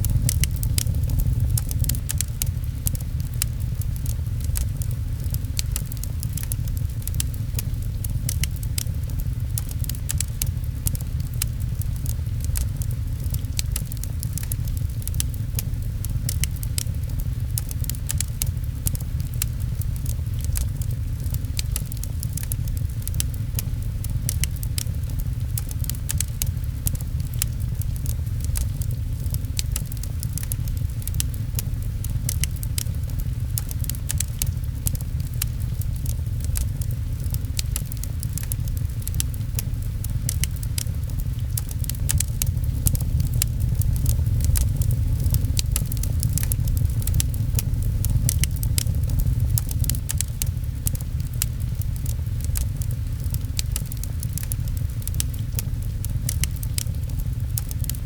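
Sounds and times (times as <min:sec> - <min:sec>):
low rumble: 0:00.0 - 0:58.0
rain patter on a window: 0:00.0 - 0:58.0
wood fire crackling and popping: 0:00.0 - 0:58.0.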